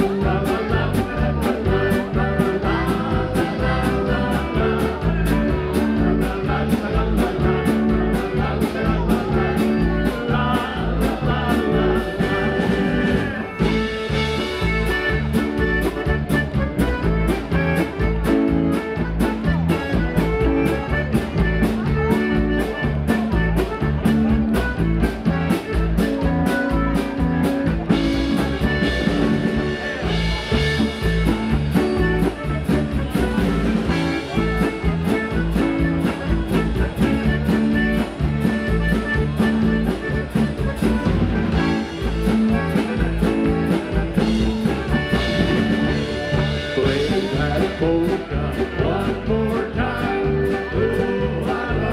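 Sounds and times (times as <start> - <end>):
accordion: 0.0 - 51.9
drum kit beat: 0.0 - 51.9
electric guitar: 0.0 - 51.9
keyboard: 0.0 - 51.9.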